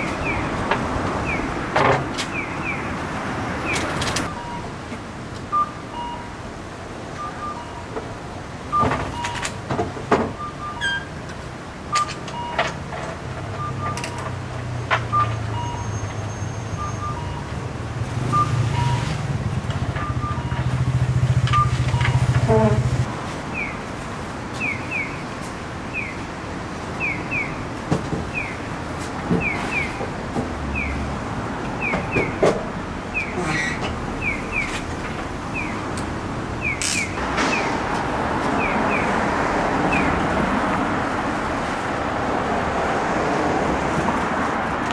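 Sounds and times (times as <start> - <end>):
street traffic: 0.0 - 44.9.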